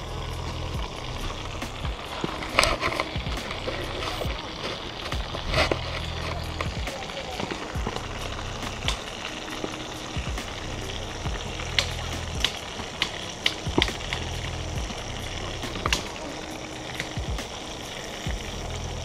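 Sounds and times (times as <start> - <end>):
fish sizzling in oil: 0.0 - 19.0
oil popping and clicking: 0.0 - 19.0.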